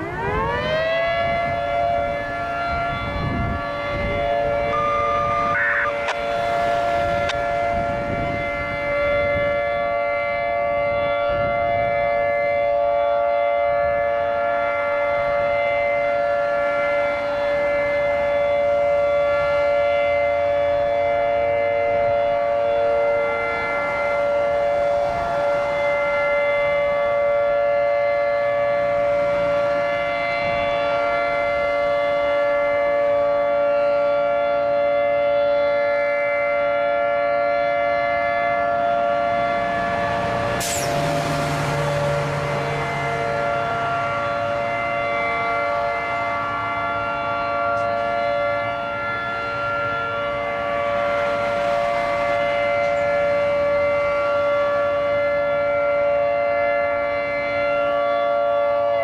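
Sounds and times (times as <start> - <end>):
two-tone warning siren: 0.0 - 59.0.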